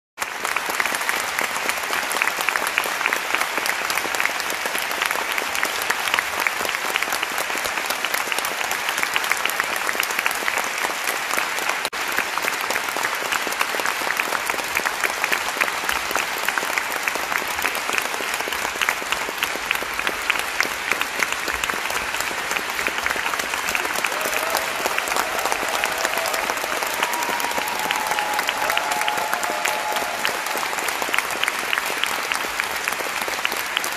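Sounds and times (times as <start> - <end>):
audience applauding: 0.2 - 33.9.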